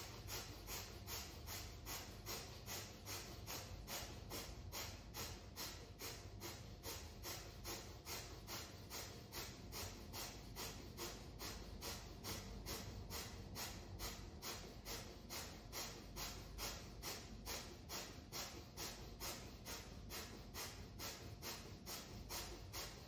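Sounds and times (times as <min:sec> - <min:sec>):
rapid forceful nose breathing: 0:00.0 - 0:23.0.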